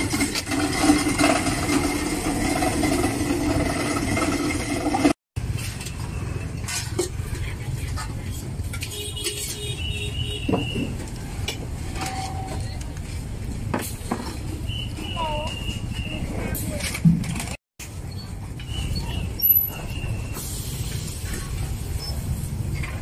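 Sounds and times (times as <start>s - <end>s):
traffic rumble: 1.1s - 23.0s.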